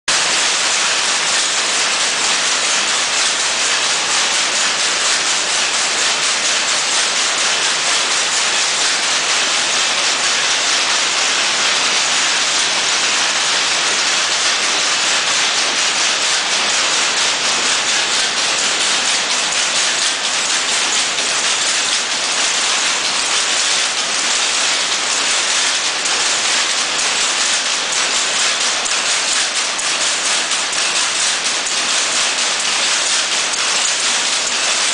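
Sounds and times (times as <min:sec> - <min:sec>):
loom clattering: 0:00.1 - 0:34.9.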